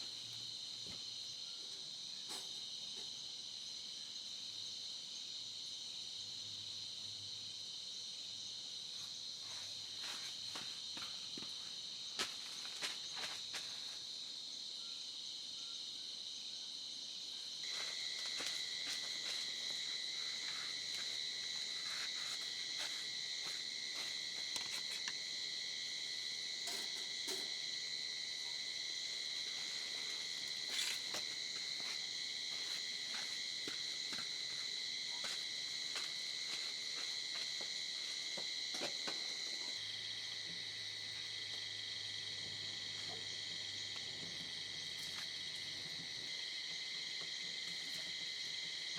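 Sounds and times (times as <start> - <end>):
crickets trilling: 0.0 - 48.9
lower insect trill: 0.0 - 48.9.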